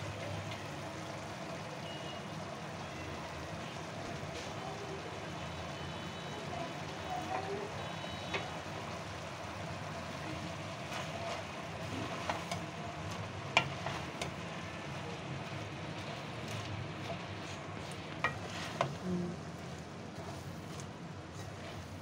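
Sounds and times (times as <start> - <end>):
steady sizzle: 0.0 - 22.0
wooden spoon stirring in pot: 0.0 - 22.0.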